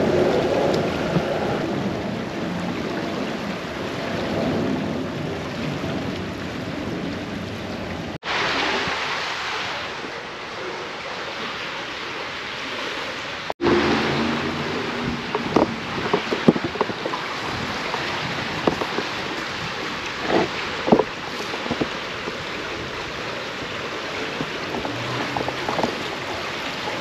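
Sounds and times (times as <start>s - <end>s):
brook water flowing: 0.0s - 27.0s.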